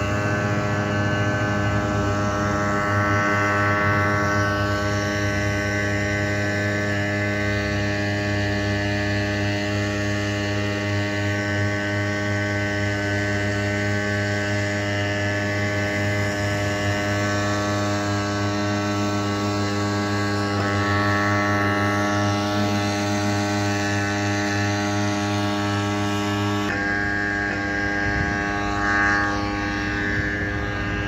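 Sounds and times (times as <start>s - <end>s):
engine droning hum: 0.0s - 31.0s.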